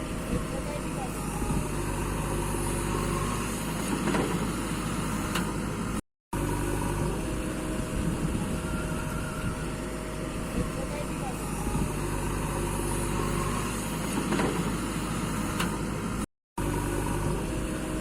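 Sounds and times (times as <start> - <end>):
heavy machinery engine rumbling: 0.0 - 18.0.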